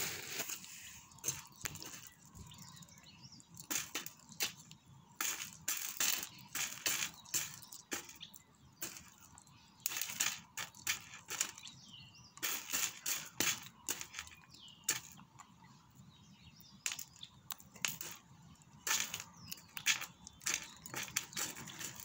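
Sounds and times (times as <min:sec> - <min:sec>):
monkey crunching maize kernels: 0:00.0 - 0:11.8, 0:12.4 - 0:15.5, 0:16.8 - 0:22.0.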